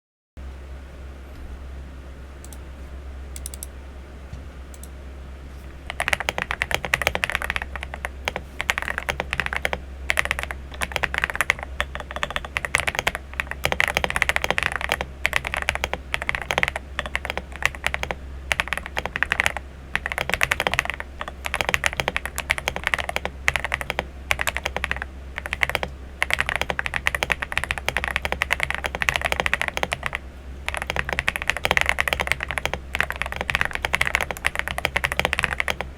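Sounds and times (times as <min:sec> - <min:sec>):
typing on mechanical keyboard: 0:05.9 - 0:35.9.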